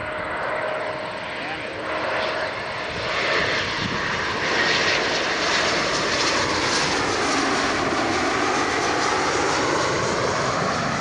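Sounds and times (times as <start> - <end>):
jet engines passing: 0.0 - 11.0.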